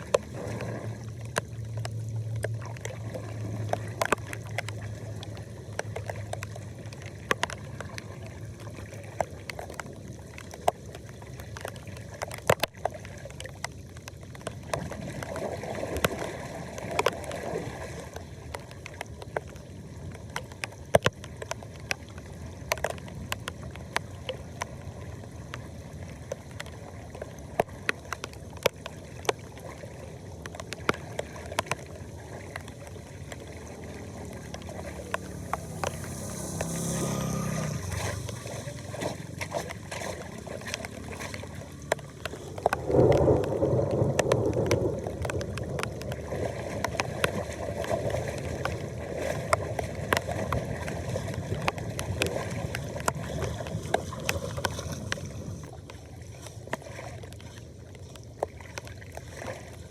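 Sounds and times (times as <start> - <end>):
floodwater gurgling into drain: 0.0 - 59.9
surge of rushing water: 0.0 - 59.9.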